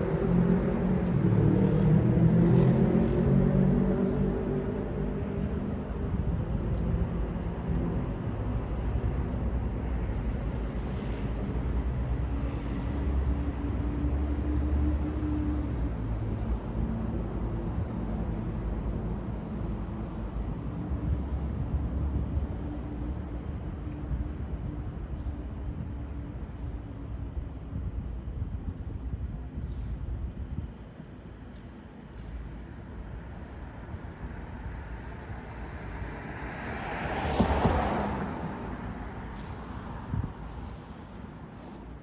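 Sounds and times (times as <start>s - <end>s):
city street traffic rumble: 0.0s - 42.0s.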